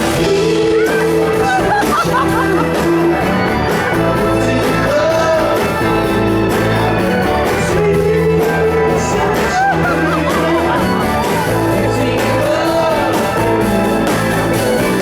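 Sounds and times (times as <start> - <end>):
live band guitar bass and drums: 0.0 - 15.0
man singing: 0.0 - 15.0.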